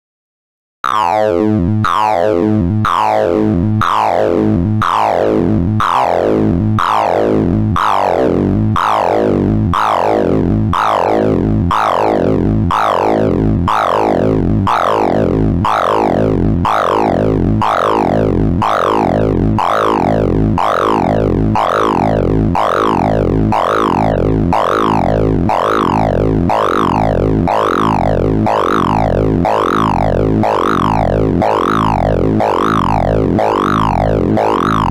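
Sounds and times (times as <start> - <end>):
rapid warbling synthesized tones: 0.8 - 34.9
steady lower tones: 1.2 - 34.9.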